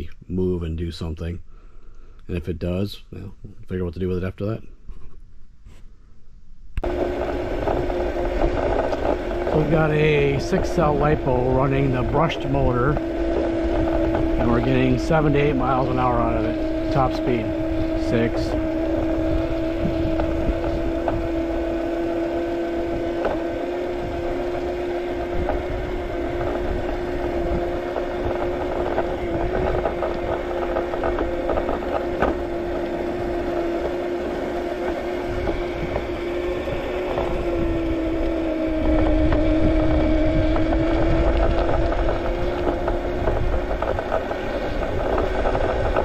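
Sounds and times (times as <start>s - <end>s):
low wind: 0.0s - 46.0s
electric scooter motor whining: 6.8s - 46.0s
tyre rumble: 6.8s - 46.0s.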